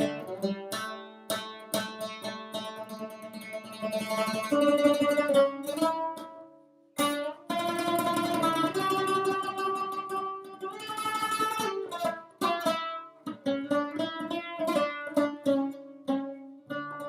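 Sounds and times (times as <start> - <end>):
plucked lute improvising: 0.0 - 17.0.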